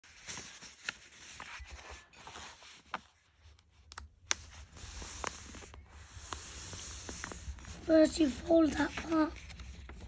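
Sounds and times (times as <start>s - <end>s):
paper crackling: 0.0s - 10.0s
paper rustling on carpet: 0.0s - 10.0s.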